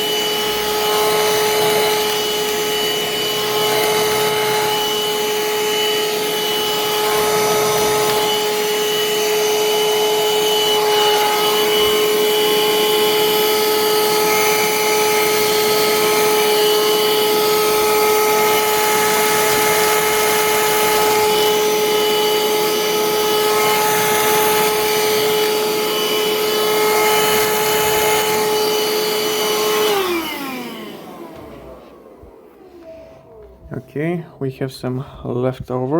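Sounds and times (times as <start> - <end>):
motor winding down: 0.0 - 33.7
vacuum cleaner high whine: 0.0 - 35.9.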